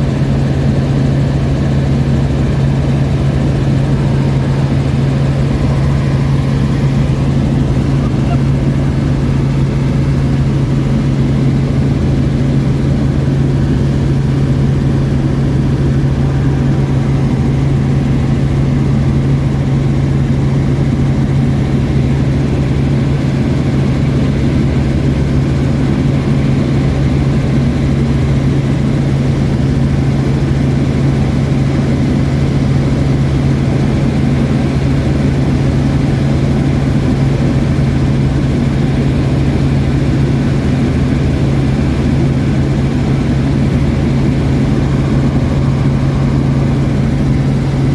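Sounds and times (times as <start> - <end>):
helicopter drone from inside cabin: 0.0 - 47.9.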